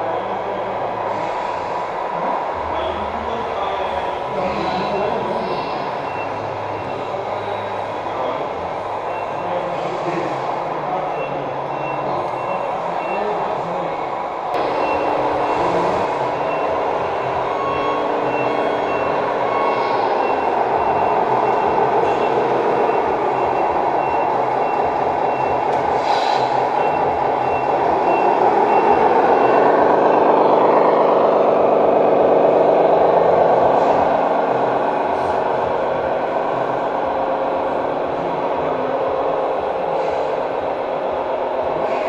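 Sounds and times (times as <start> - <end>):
diesel truck engine through small speaker: 0.0 - 42.0
reversing beeper: 2.7 - 9.9, 10.7 - 13.5, 14.6 - 40.3.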